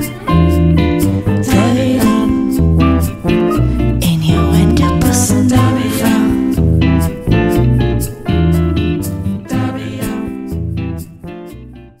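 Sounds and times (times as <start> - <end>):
strummed guitar music: 0.0 - 12.0.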